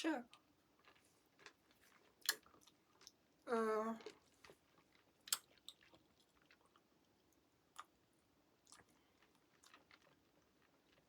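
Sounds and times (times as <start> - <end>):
person chewing food: 0.3 - 3.2, 4.0 - 11.0.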